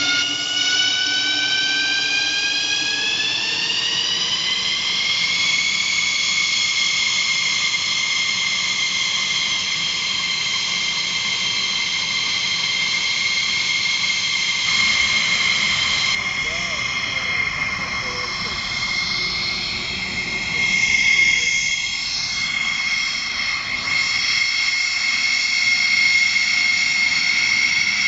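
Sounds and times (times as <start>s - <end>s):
jet engine whine spooling up: 0.0s - 28.0s.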